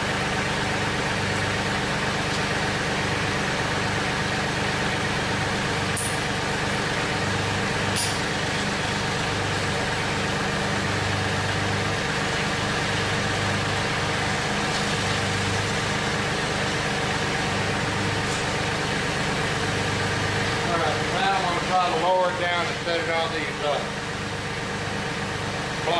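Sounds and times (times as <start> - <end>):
tractor diesel engine idling: 0.0 - 25.9.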